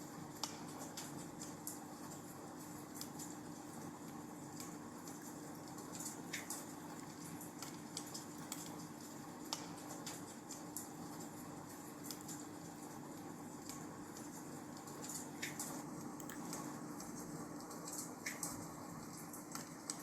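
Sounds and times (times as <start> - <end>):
wood fire crackling: 0.1 - 20.0.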